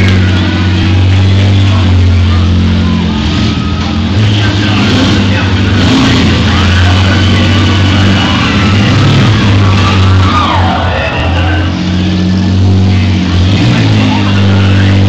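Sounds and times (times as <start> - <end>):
car engines revving: 0.0 - 15.0
loud rock music: 0.0 - 15.0.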